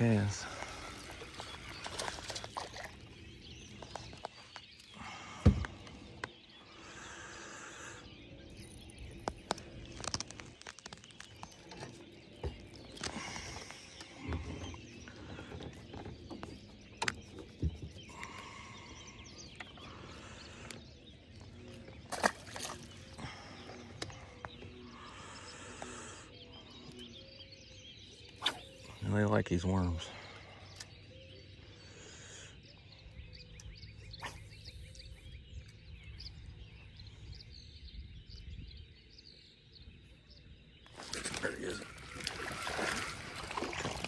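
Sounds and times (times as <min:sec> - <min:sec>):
faint birds calling: 0:00.0 - 0:44.0.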